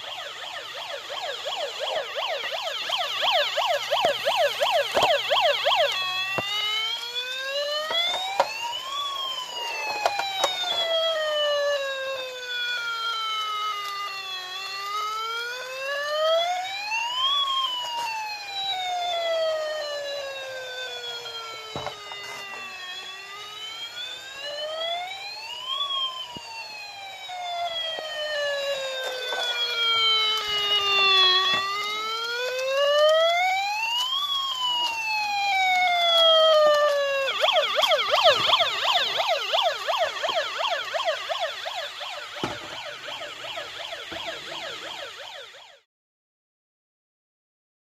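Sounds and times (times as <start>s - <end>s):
toy police siren wail: 0.0s - 45.9s.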